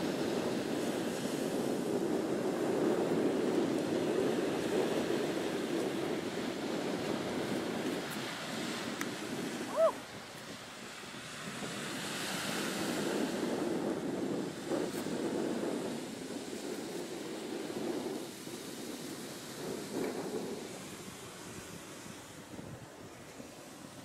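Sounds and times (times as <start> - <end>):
ocean surf washing on shore: 0.0 - 24.0
wind buffeting microphone: 0.0 - 24.0.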